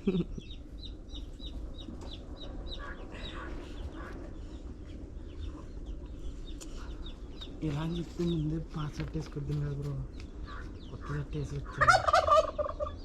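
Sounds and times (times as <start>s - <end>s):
chicks peeping: 0.0s - 13.0s
hen clucking: 0.0s - 13.0s.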